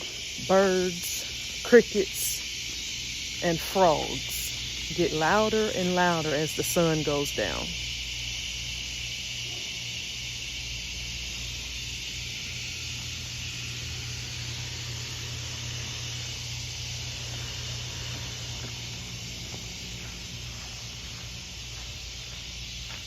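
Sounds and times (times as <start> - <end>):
low steady hum: 0.0 - 23.0
night insects chirping: 0.0 - 23.0.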